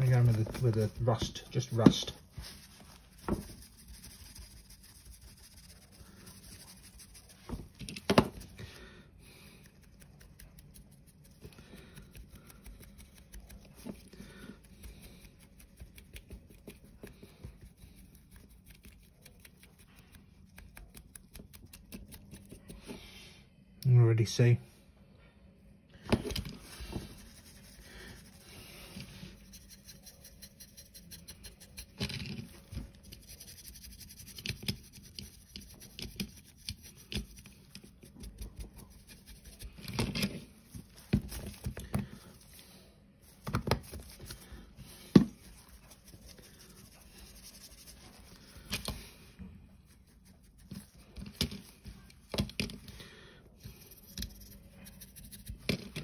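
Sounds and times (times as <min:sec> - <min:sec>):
paint brush scrubbing plastic: 0:00.0 - 0:23.1, 0:26.5 - 0:52.8, 0:53.6 - 0:56.0.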